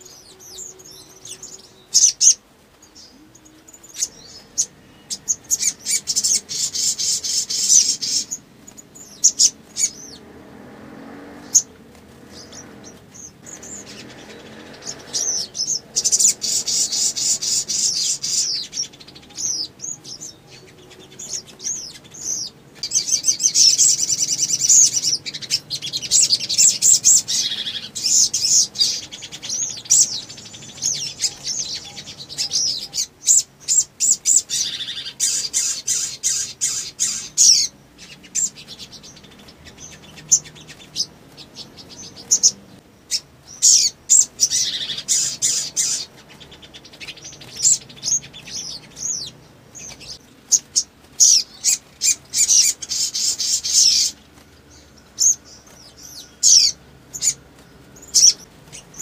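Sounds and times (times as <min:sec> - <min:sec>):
bird chirping rapidly: 0:00.0 - 0:59.0.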